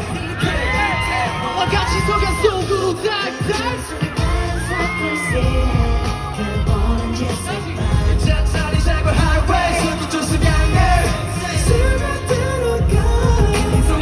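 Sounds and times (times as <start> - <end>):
men singing: 0.0 - 14.0
pop backing track with beat: 0.0 - 14.0.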